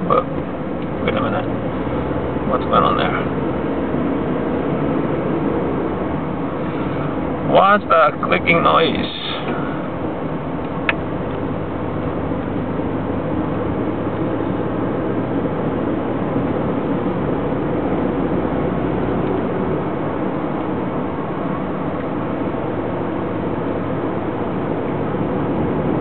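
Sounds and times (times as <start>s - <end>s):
car cabin road noise: 0.0s - 26.0s.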